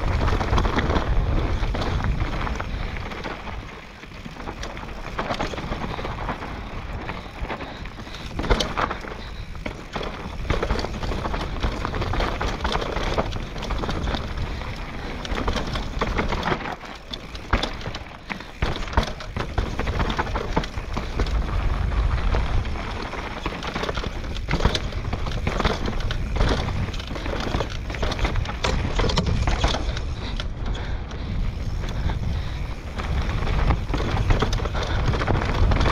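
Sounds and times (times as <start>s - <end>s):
bike rattling over bumps: 0.0s - 35.9s
bike tyres rolling over dirt: 0.0s - 35.9s.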